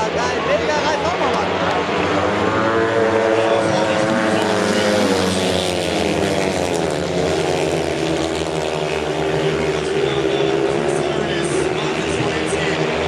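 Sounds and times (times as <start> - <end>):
racing motorcycle engines droning: 0.0 - 13.0.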